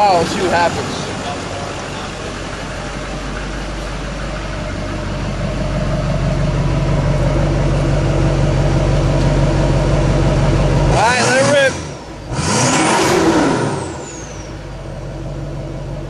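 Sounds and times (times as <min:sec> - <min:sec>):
truck engine at exhaust: 0:00.0 - 0:16.0.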